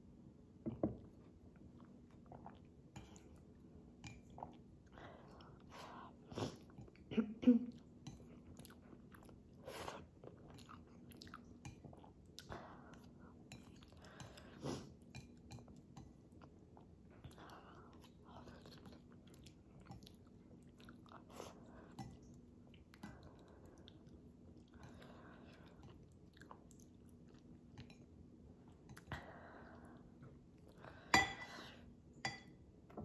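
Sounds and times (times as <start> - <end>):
wet chewing of noodles: 1.2 - 7.1, 7.7 - 31.1.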